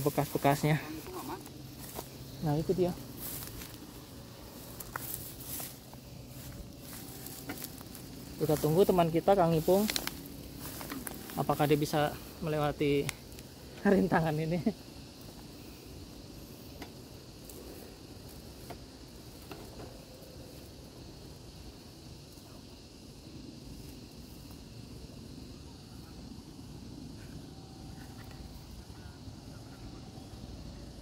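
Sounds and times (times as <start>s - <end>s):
insects chirring: 0.0s - 31.0s
low outdoor rumble: 0.0s - 31.0s.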